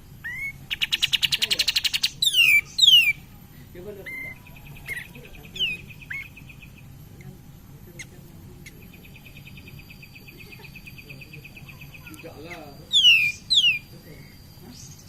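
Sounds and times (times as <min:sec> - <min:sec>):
songbird chattering trill: 0:00.1 - 0:15.0.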